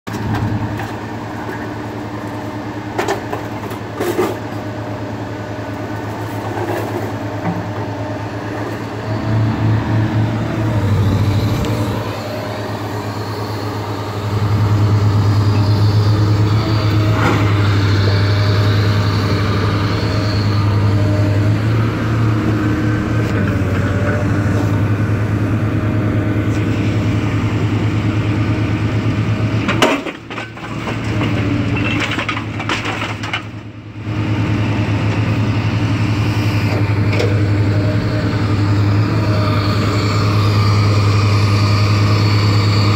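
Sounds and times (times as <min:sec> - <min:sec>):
large engine humming: 0:00.1 - 0:42.9.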